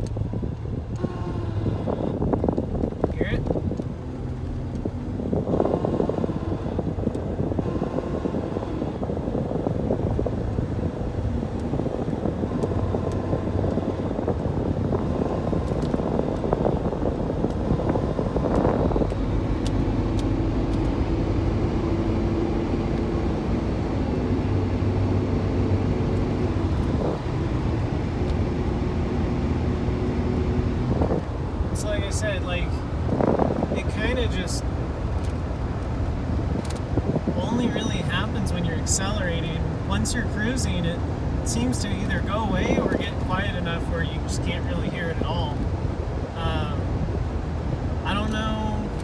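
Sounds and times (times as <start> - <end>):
engine accelerating: 0.0 - 49.0.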